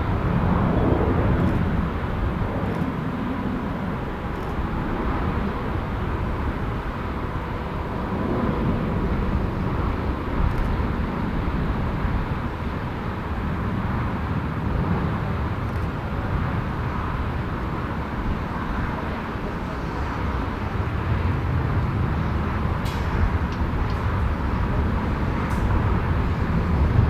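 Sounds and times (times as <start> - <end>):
faint steady engine tone: 0.0 - 27.0
jet engines rumbling: 0.0 - 27.0.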